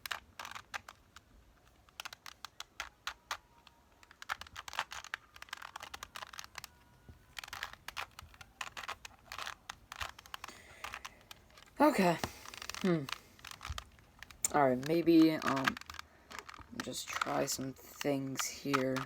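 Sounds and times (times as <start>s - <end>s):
puzzle cube layers clicking: 0.0s - 19.0s.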